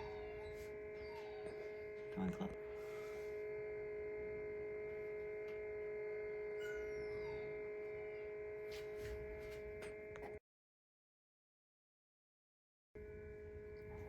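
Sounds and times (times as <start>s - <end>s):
electrical hum: 0.0s - 10.4s, 13.0s - 14.0s.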